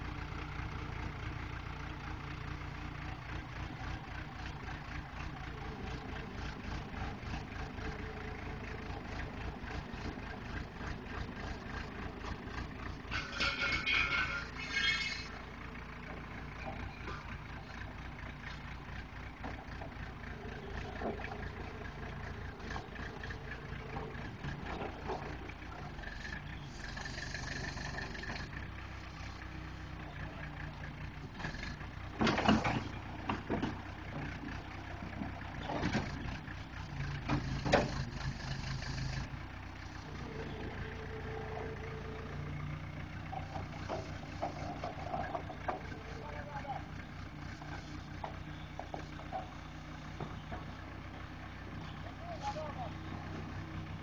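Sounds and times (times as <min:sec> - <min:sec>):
backhoe engine running: 0:00.0 - 0:54.0.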